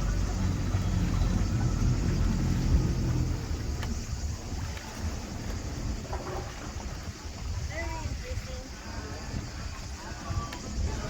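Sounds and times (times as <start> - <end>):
boat engine rumble: 0.0 - 11.0
water rushing past boat: 0.0 - 11.0.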